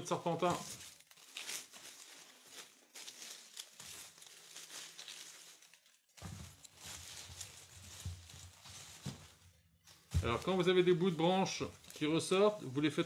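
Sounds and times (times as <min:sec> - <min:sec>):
ivy leaves rustling: 0:00.0 - 0:13.0.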